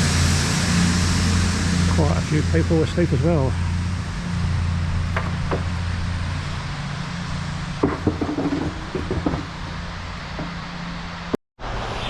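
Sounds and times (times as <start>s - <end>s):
train diesel engine idling: 0.0s - 11.3s.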